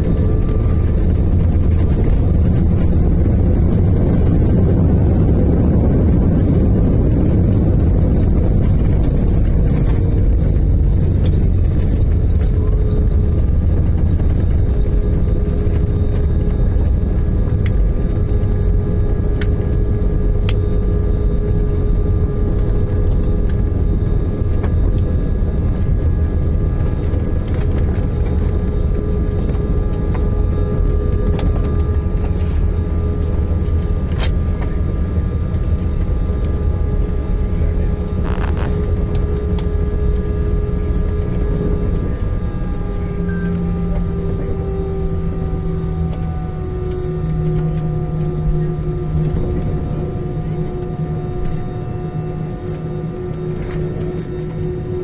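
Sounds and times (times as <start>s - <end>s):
jet engines and airflow rumble: 0.0s - 55.0s
steady hum: 0.0s - 55.0s.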